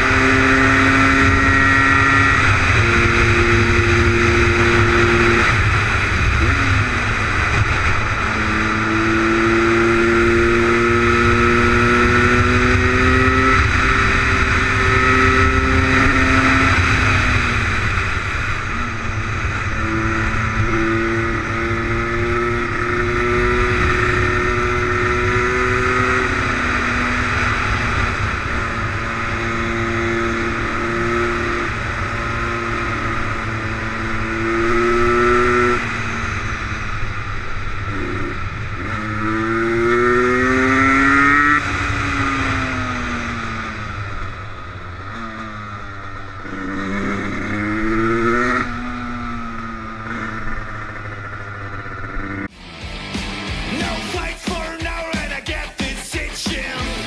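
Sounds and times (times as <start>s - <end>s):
wind and road noise: 0.0s - 53.5s
two-stroke motorcycle engine: 0.0s - 55.6s.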